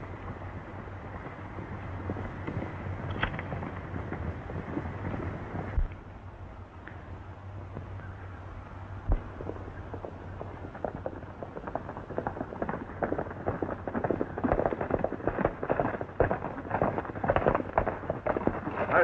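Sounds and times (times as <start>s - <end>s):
horses galloping on dirt: 0.0s - 19.0s.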